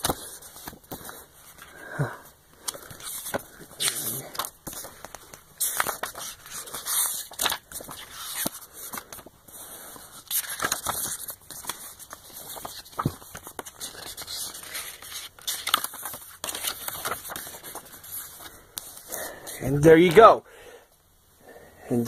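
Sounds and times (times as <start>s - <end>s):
paper and packaging rustling: 2.6s - 20.3s.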